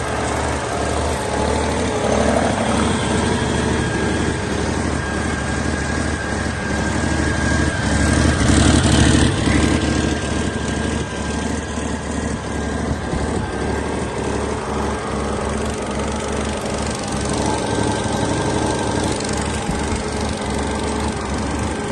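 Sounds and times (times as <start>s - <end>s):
diesel engine idling: 0.0s - 21.9s
steady whine: 0.0s - 21.9s.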